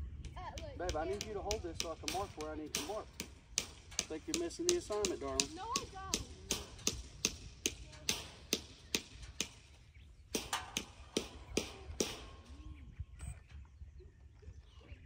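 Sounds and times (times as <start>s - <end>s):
sharp taps: 0.2s - 12.5s.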